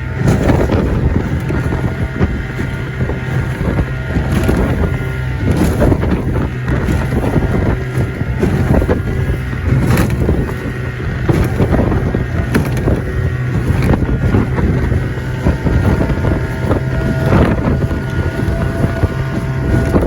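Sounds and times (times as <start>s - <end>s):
hull slapping against waves: 0.0s - 20.0s
outboard motor running: 0.0s - 20.0s
wind buffeting microphone: 0.0s - 20.0s.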